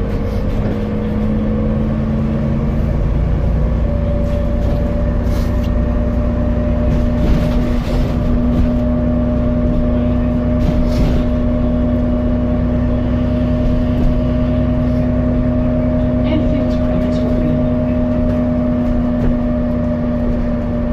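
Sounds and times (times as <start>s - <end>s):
bus engine idling: 0.0s - 20.9s.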